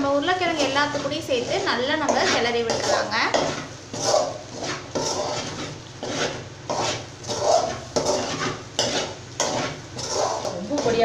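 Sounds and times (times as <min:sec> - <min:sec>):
spatula scraping metal pan: 0:00.2 - 0:11.0.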